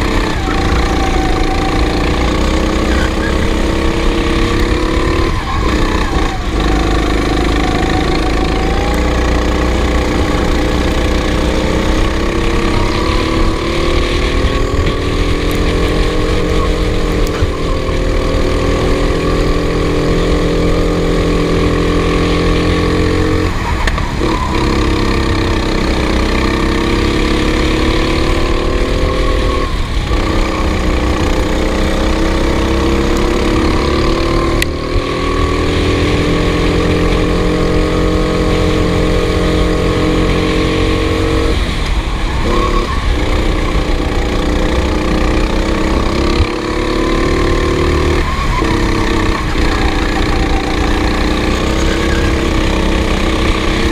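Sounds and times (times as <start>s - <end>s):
racing engine revving: 0.0s - 53.9s.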